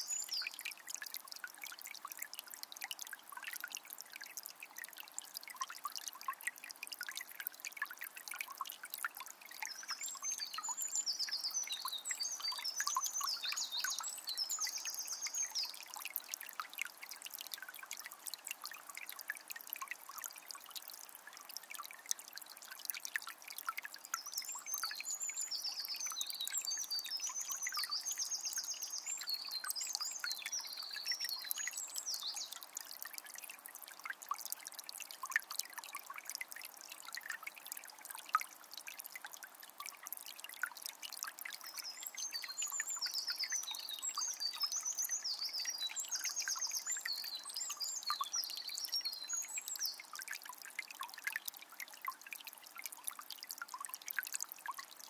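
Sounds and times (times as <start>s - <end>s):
river trickling and pouring: 0.0s - 55.0s
songbird singing chirps and trills: 0.0s - 55.0s.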